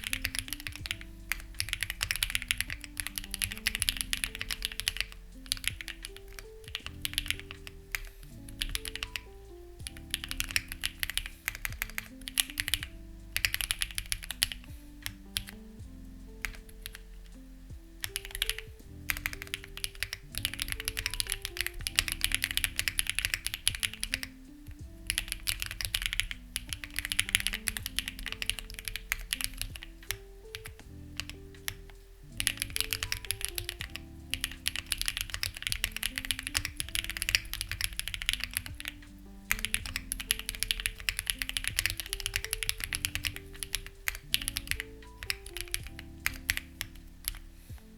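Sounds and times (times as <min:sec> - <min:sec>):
mechanical keyboard typing: 0:00.0 - 0:17.2, 0:18.0 - 0:47.5.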